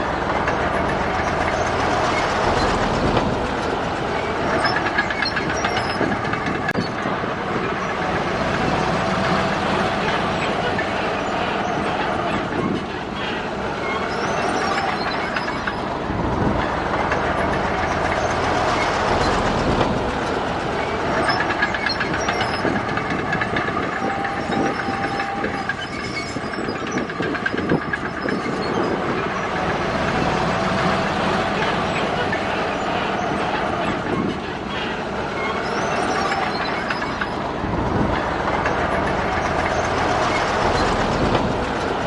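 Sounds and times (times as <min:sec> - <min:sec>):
bulldozer diesel engine running: 0:00.0 - 0:42.0
steel tracks clanking and squealing: 0:00.0 - 0:42.0.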